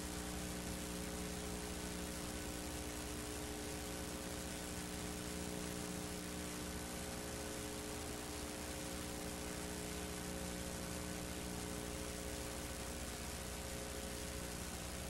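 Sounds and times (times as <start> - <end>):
low mains hum: 0.0 - 15.0
steady hiss: 0.0 - 15.0.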